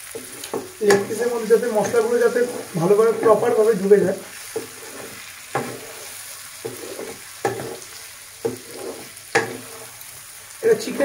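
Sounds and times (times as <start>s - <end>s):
utensil scraping a pan: 0.0s - 10.3s
chicken sizzling in a frying pan: 0.0s - 11.0s.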